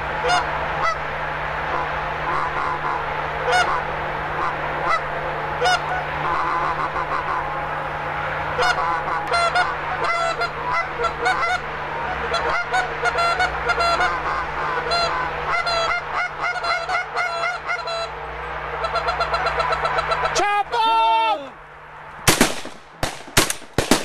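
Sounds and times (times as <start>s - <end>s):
geese honking: 0.0s - 21.4s.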